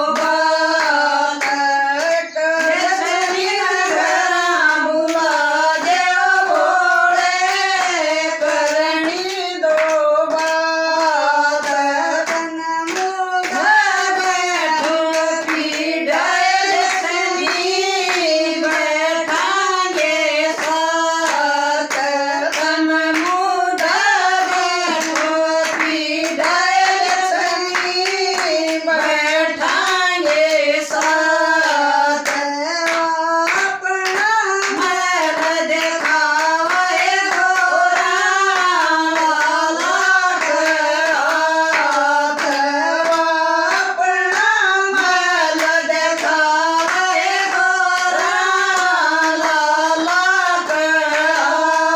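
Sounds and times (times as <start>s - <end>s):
hand claps keeping rhythm: 0.0s - 51.9s
voices singing devotional song: 0.0s - 51.9s.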